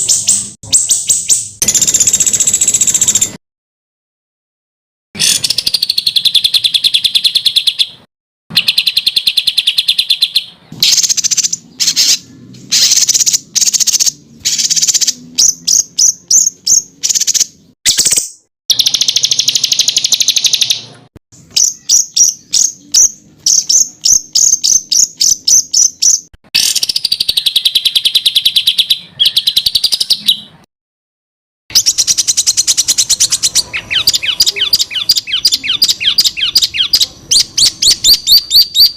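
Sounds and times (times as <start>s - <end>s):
songbirds trilling: 5.2s - 18.2s, 18.8s - 30.5s, 31.7s - 38.9s.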